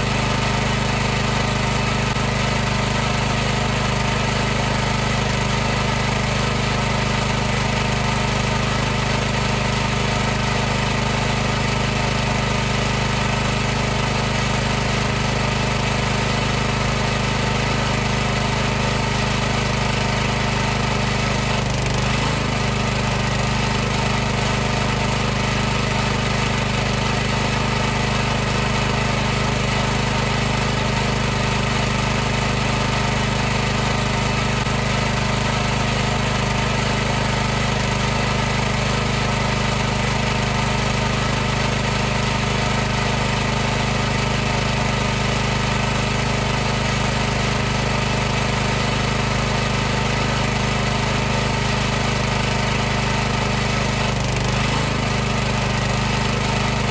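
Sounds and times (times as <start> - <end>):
pressure washer machine hum: 0.0 - 56.9.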